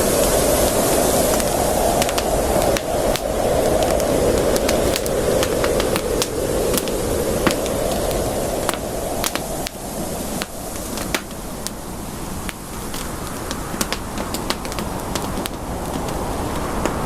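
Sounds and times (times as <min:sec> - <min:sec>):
burning wood popping and snapping: 0:00.0 - 0:17.0
hiss of flames: 0:00.0 - 0:17.0.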